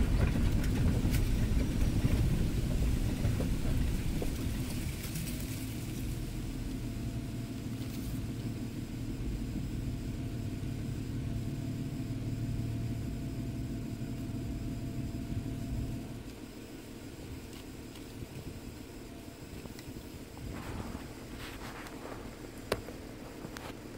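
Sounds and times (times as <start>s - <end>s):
car engine running at low revs: 0.0s - 23.9s
thin steady whine: 0.0s - 23.9s.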